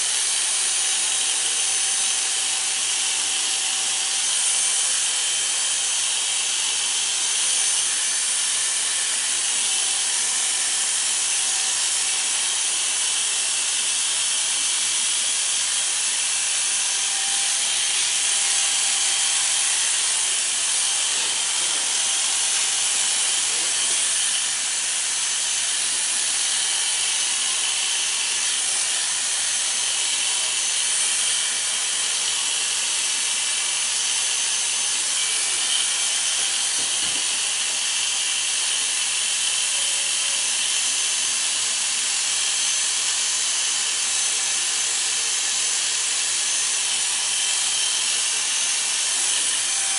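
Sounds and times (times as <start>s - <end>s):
electric hair clippers running: 0.0s - 49.9s.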